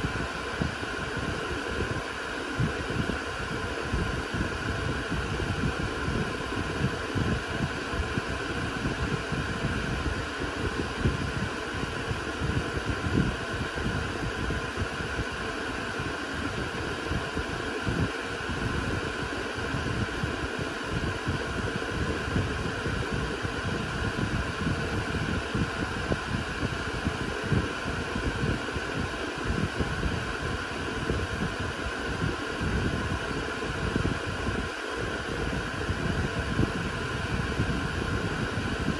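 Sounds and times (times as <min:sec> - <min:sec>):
cooling fans rushing air: 0:00.0 - 0:38.9.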